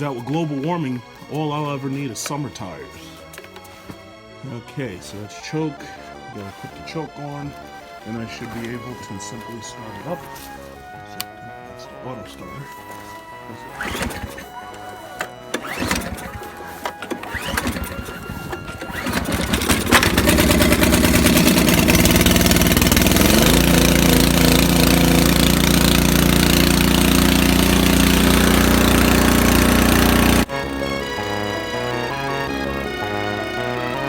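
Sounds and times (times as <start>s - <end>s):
snowblower engine starting and running: 0.0s - 34.0s.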